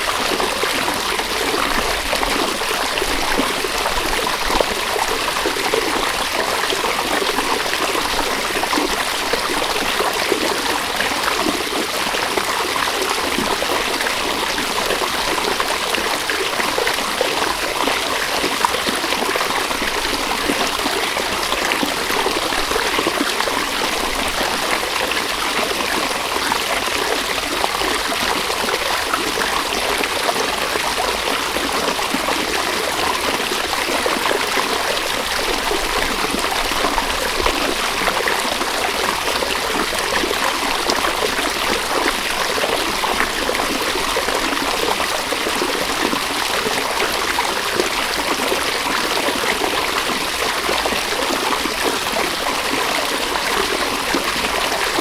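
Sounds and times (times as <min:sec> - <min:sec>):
river water running over stones: 0:00.0 - 0:55.0.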